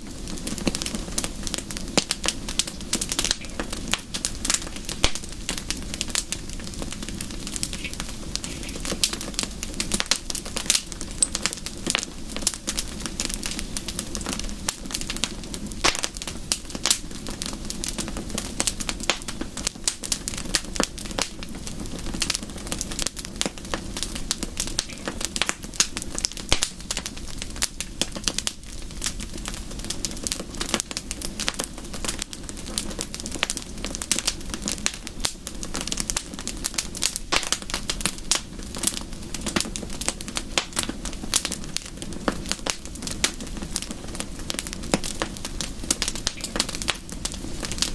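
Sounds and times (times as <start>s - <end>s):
low fire rumble: 0.0s - 47.9s
wood fire crackling: 0.0s - 47.9s.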